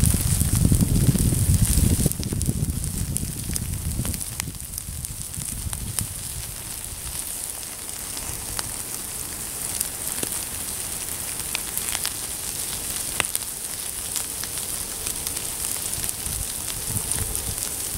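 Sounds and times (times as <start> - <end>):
fire pops and crackles: 0.0 - 17.9
wood fire hissing: 0.0 - 17.9.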